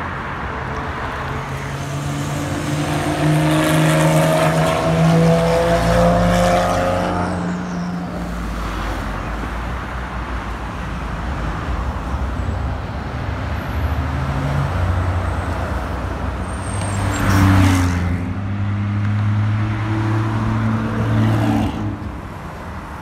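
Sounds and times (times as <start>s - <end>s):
light road traffic: 0.0s - 23.0s.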